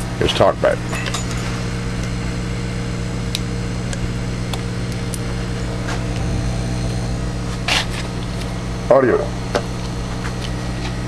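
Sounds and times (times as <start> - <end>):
electrical hum from speaker: 0.0 - 11.0.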